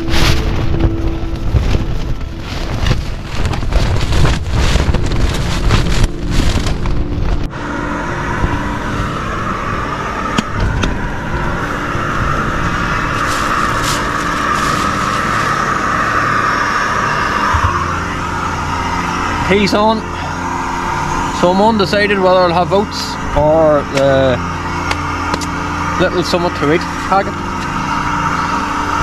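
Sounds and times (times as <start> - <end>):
wind buffeting tent: 0.0 - 29.0.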